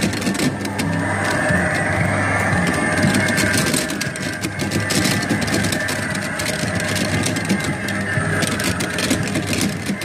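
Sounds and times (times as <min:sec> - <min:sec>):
rapid irregular clicking: 0:00.0 - 0:10.0
ride engine-like hum: 0:00.0 - 0:10.0.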